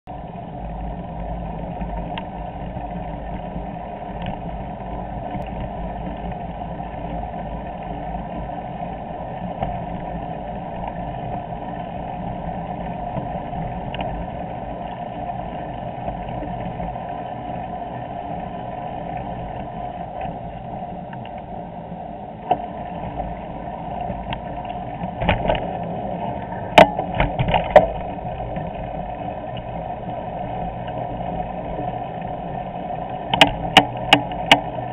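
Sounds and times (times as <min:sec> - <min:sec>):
bicycle rolling on pavement: 0:00.1 - 0:34.9.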